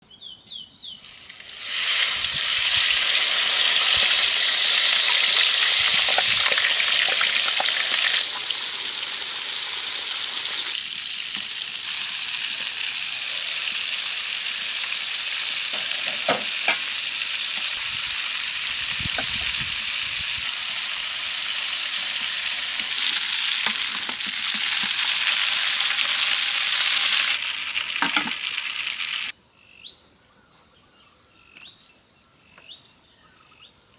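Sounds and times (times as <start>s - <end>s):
food frying sizzling: 1.0s - 29.3s.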